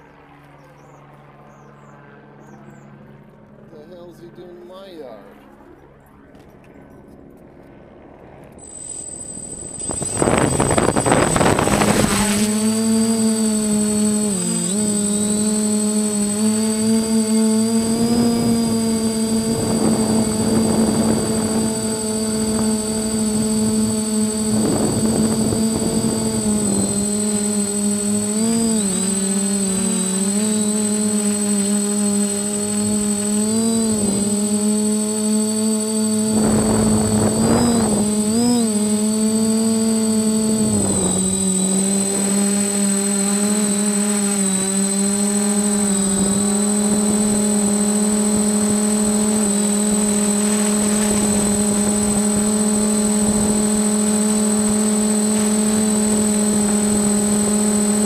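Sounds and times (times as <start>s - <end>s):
quadcopter motors whining: 8.5s - 58.0s
wind on microphone: 8.6s - 58.0s.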